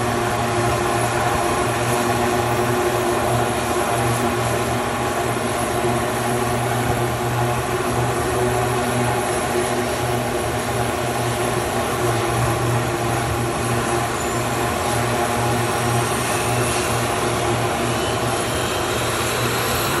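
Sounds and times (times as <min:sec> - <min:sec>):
high turbine whine: 0:00.0 - 0:20.0
low propeller drone: 0:00.0 - 0:20.0.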